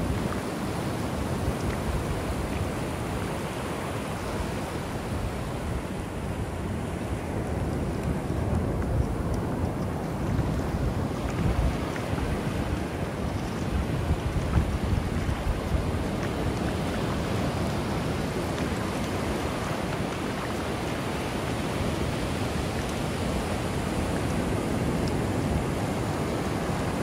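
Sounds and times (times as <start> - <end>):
ocean surf washing onto beach: 0.0 - 27.0
wind buffeting microphone: 4.2 - 27.0.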